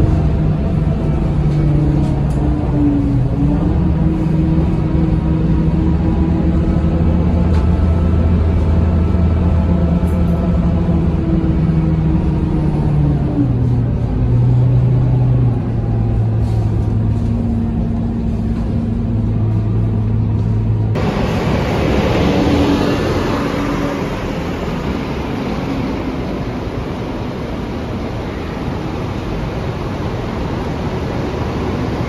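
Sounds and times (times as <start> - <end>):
bus engine hum from inside: 0.0 - 32.0
bus passing and pulling away: 0.0 - 32.0.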